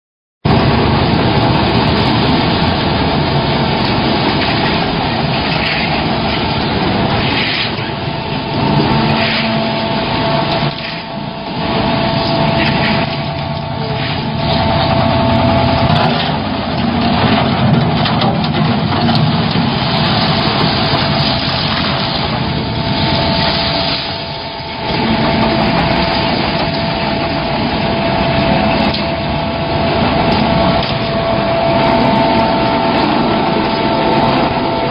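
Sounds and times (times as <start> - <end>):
concrete pump engine running: 0.5 - 34.9
high machinery whine: 0.5 - 34.9.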